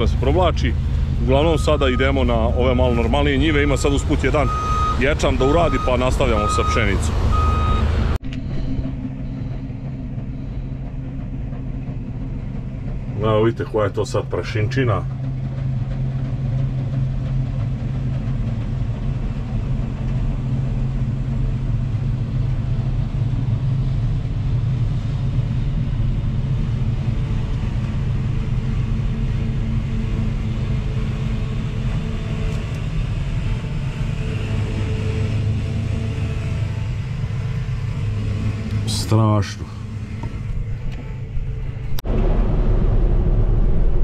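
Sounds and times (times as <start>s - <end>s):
combine harvester engine hum: 0.0s - 44.0s.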